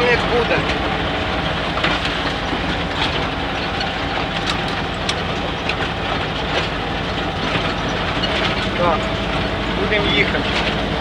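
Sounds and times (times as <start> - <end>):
body and trailer rattling: 0.0 - 11.0
vehicle engine rumbling: 0.0 - 11.0.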